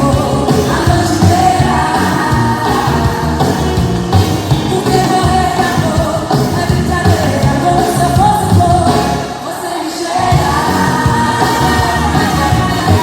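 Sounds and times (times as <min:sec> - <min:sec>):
upbeat pop song with vocals: 0:00.0 - 0:13.0.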